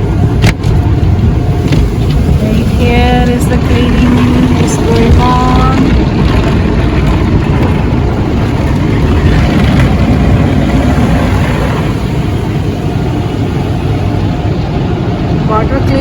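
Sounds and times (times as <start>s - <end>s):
water spraying over vehicle: 0.0s - 16.0s.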